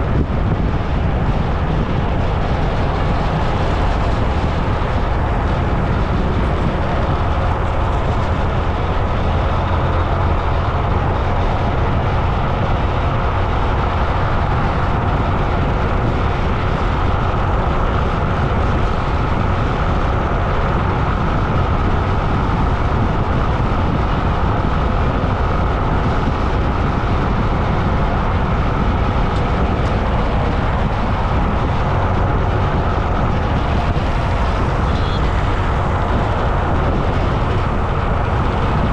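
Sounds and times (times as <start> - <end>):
road noise rumble: 0.0 - 38.9
wind on microphone: 0.0 - 38.9.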